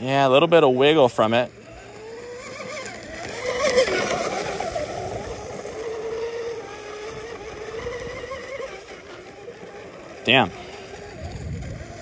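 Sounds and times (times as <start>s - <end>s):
rc boat motor whine: 0.0s - 12.0s.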